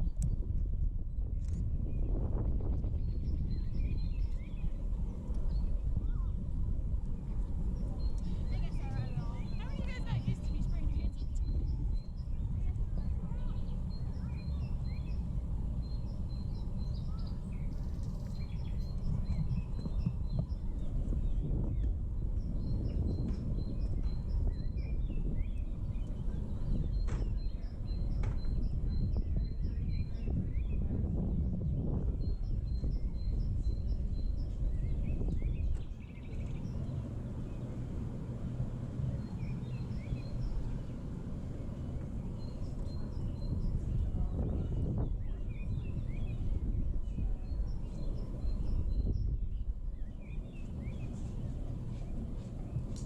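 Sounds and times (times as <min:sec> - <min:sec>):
low outdoor rumble: 0:00.0 - 0:53.0
small birds chirping: 0:07.2 - 0:30.9, 0:31.8 - 0:53.0.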